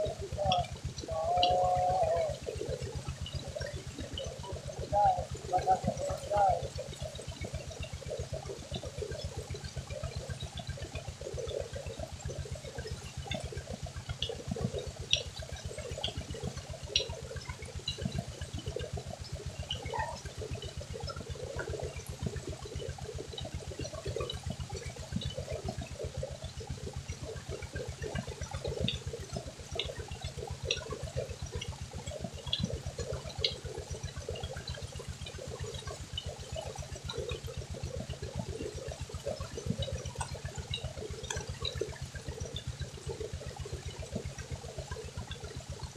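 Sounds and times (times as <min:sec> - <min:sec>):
pump engine pulsing: 0:00.0 - 0:45.9.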